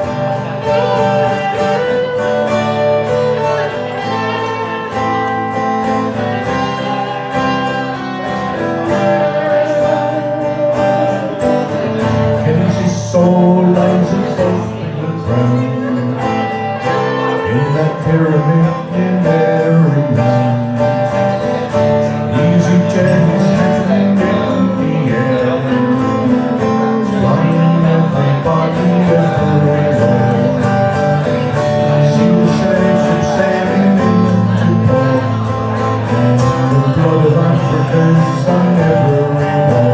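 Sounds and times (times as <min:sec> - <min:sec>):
person singing a folk ballad: 0:00.0 - 0:39.9
strummed acoustic guitar: 0:00.0 - 0:39.9.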